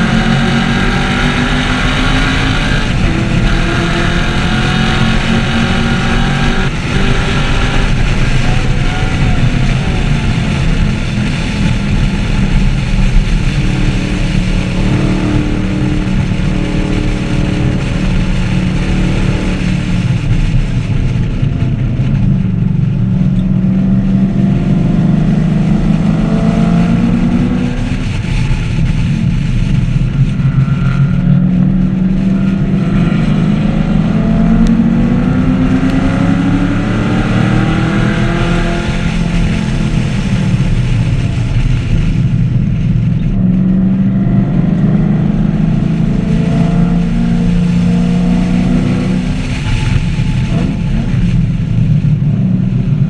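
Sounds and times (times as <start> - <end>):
car engine revving hard: 0.0 - 53.0.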